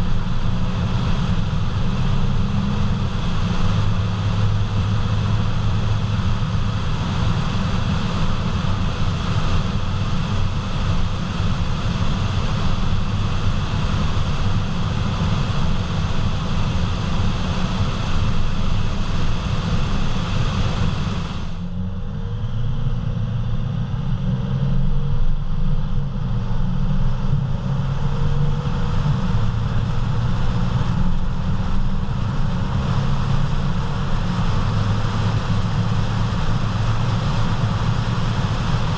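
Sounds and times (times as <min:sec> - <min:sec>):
road roar inside car cabin: 0:00.0 - 0:38.9.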